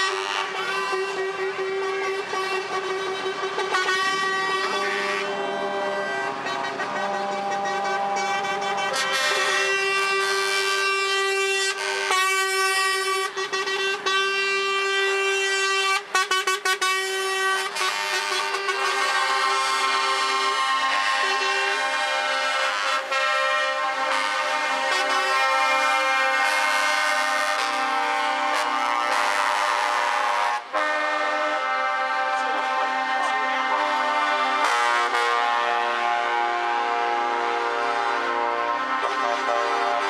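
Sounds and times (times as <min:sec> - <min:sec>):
short air horn blasts: 0:00.0 - 0:40.0
truck air horns blaring: 0:00.0 - 0:40.0.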